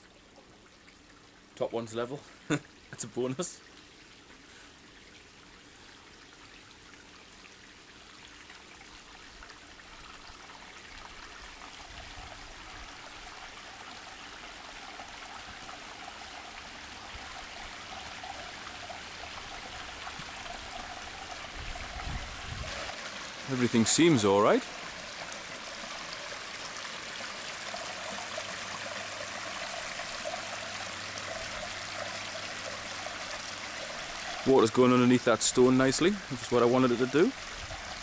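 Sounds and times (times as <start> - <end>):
water trickling down rocks: 0.0 - 38.0.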